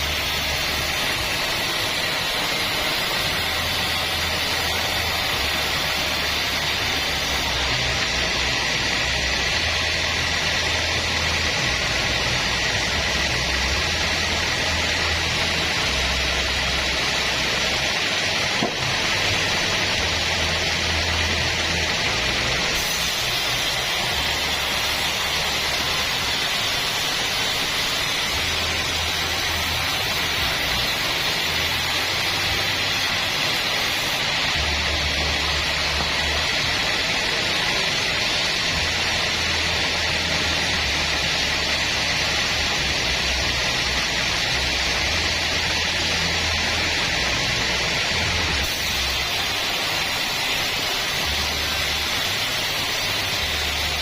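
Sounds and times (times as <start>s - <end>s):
band saw hiss: 0.0s - 54.0s.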